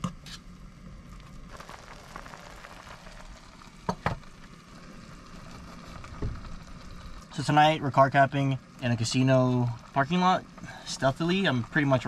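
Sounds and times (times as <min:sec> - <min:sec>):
food sizzling on a stove: 0:00.2 - 0:12.0.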